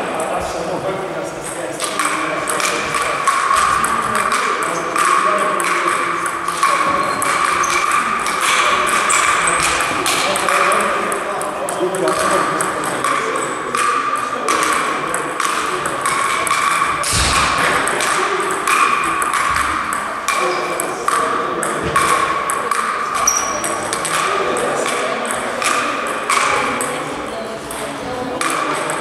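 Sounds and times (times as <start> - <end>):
ball clicking off bats: 1.4 - 27.0, 27.6 - 29.0
ball pinging on table: 1.8 - 27.0, 27.7 - 29.0.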